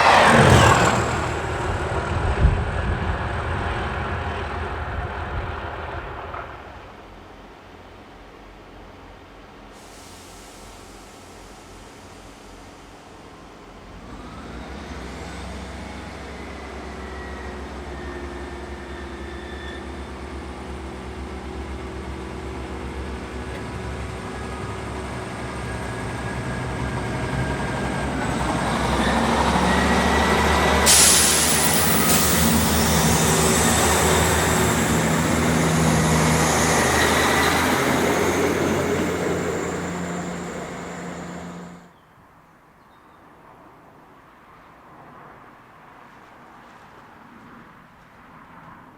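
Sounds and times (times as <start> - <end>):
diesel locomotives passing: 0.0 - 42.0.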